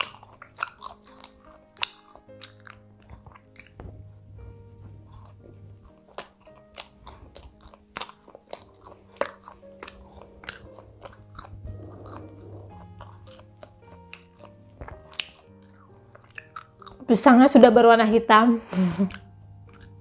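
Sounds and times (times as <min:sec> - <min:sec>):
crunchy chewing: 0:00.0 - 0:17.1, 0:19.1 - 0:20.0
soft background music: 0:00.0 - 0:20.0.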